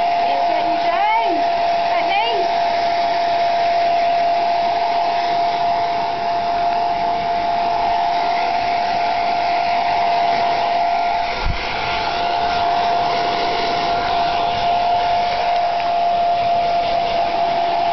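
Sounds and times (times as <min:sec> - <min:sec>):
hairdryer blowing with whine: 0:00.0 - 0:17.9.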